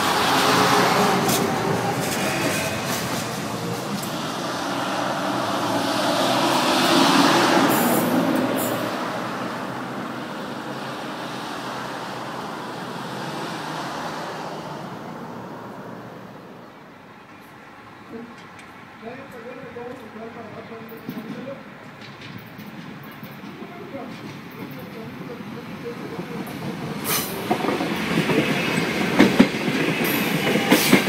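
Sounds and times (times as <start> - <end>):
train wheels rushing on rail: 0.0 - 16.4, 18.2 - 31.0.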